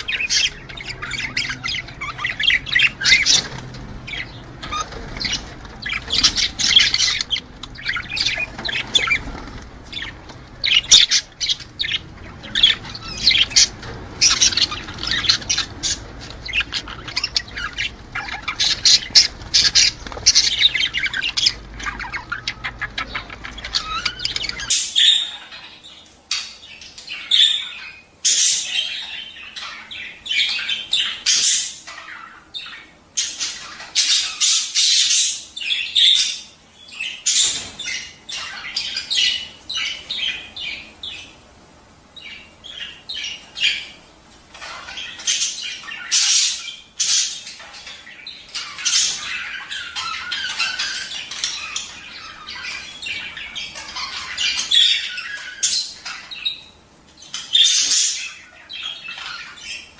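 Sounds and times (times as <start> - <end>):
budgerigars chattering and warbling: 0.0 - 59.9
low background hum: 0.0 - 59.9.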